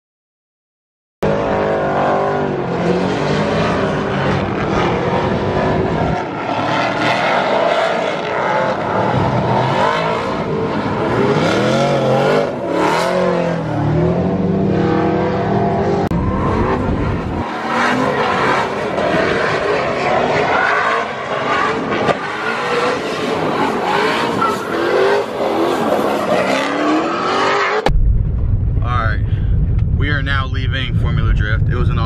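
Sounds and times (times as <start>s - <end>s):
drifting car engines revving: 1.2s - 27.9s.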